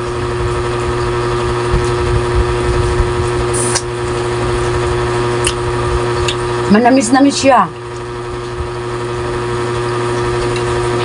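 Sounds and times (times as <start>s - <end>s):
machine hum with low rumble: 0.0s - 11.0s.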